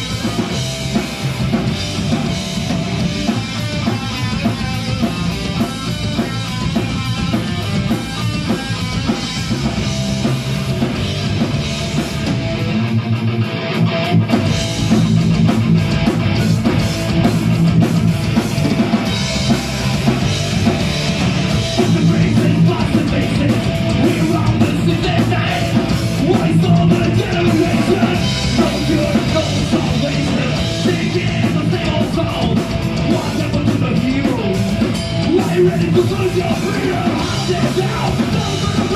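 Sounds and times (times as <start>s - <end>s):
drum kit with crashing cymbals: 0.0s - 12.7s, 14.3s - 38.9s
distorted electric guitar: 0.0s - 38.9s
heavy rock band playing: 0.0s - 38.9s.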